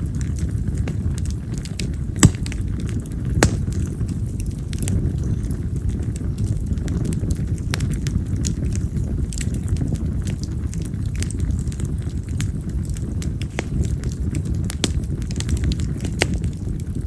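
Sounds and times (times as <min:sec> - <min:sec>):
firewood crackling with pops: 0:00.0 - 0:17.0
low rumble of fire: 0:00.0 - 0:17.0.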